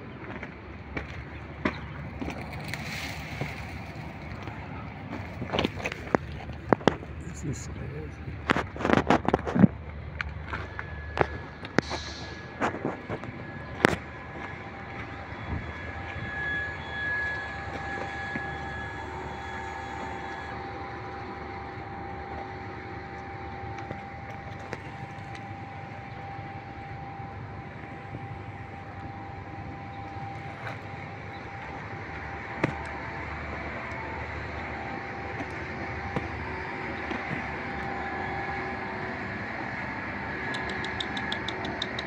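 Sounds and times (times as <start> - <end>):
faint whining tones: 0.0 - 42.0
motor vehicles humming: 0.0 - 42.0.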